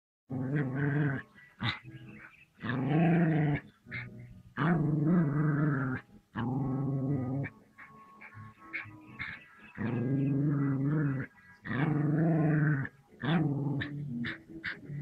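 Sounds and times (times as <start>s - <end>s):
dog growling: 0.3s - 15.0s.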